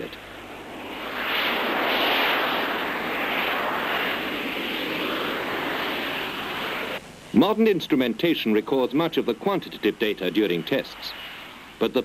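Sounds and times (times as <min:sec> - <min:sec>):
jet engine rushing: 0:00.0 - 0:07.0, 0:08.5 - 0:12.0.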